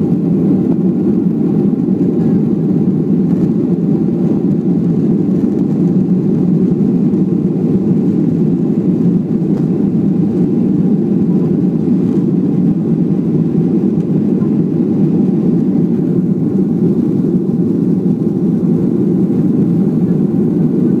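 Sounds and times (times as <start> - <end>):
jet engines droning in cabin: 0.0 - 21.0.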